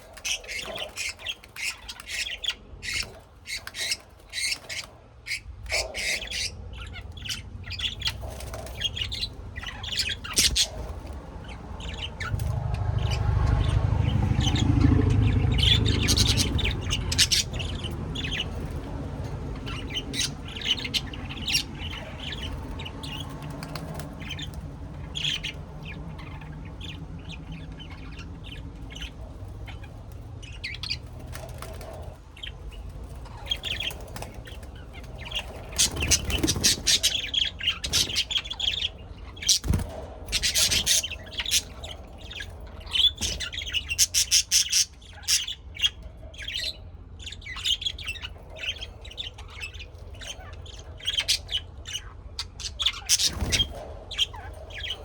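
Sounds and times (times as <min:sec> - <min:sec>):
birds chirping and squawking: 0:00.0 - 0:55.0.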